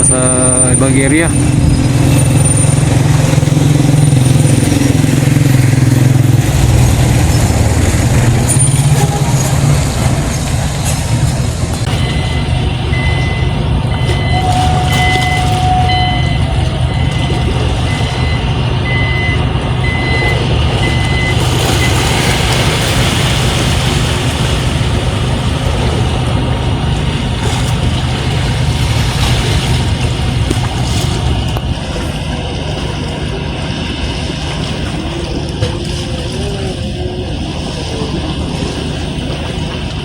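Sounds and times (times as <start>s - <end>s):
road noise: 0.0s - 40.0s
vehicle engine running: 0.0s - 40.0s.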